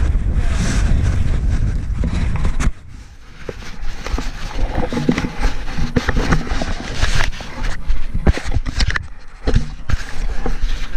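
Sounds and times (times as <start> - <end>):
wind buffeting microphone: 0.0 - 10.9
camera being handled: 2.0 - 10.9.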